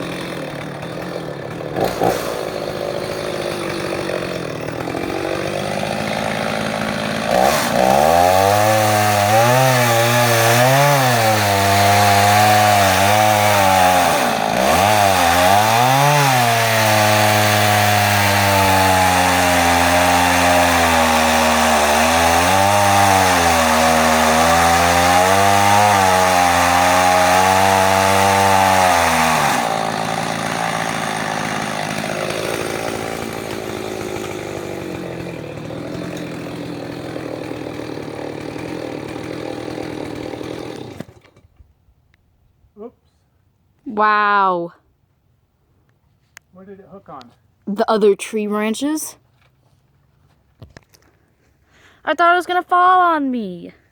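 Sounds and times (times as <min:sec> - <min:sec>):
chainsaw cutting wood: 0:00.0 - 0:41.7, 0:47.7 - 0:49.2.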